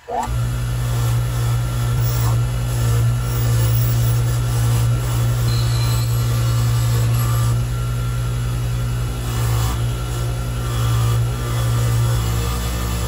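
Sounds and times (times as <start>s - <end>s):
bench grinder motor humming: 0.0s - 13.0s.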